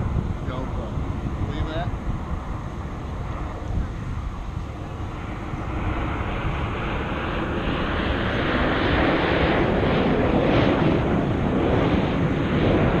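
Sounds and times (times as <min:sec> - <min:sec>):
airplane engines flying overhead: 0:00.0 - 0:13.0.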